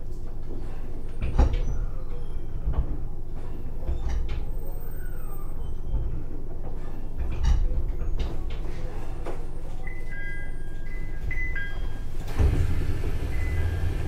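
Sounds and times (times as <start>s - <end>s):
train interior hum and rumble: 0.0s - 14.0s.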